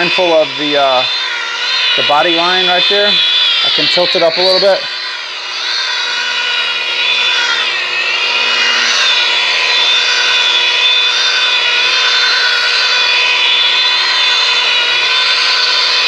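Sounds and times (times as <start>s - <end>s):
electric rotary buffer whining: 0.0s - 16.0s.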